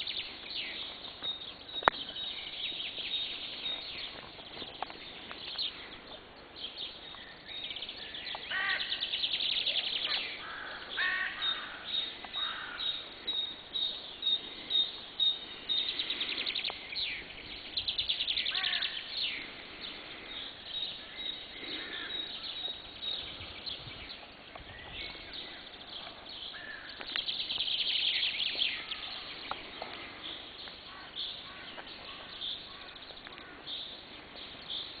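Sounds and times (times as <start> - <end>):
birds singing and calling: 0.0 - 35.0.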